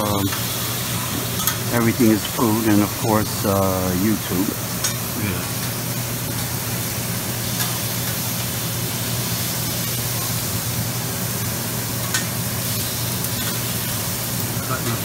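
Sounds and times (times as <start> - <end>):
meat sizzling on griddle: 0.0 - 15.0.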